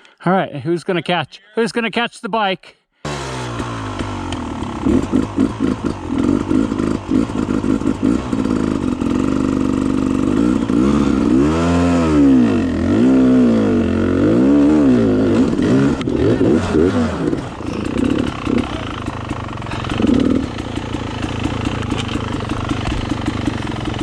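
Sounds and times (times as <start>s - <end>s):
dirt bike engine revving: 3.1s - 24.0s.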